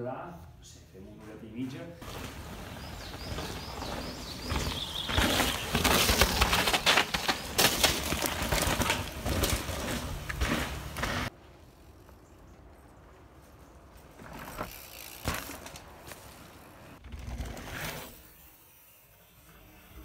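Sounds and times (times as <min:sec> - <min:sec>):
bicycle rattling over rough ground: 0:01.6 - 0:18.2.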